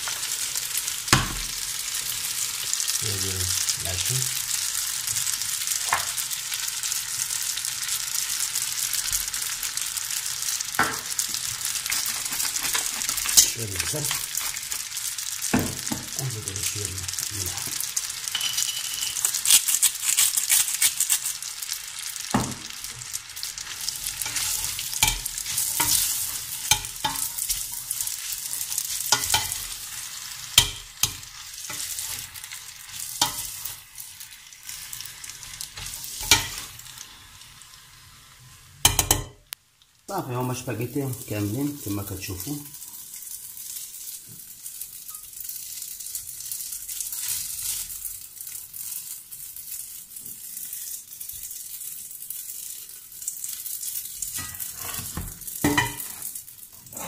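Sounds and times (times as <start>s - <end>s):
pasta sizzling in a pot: 0.0s - 57.0s.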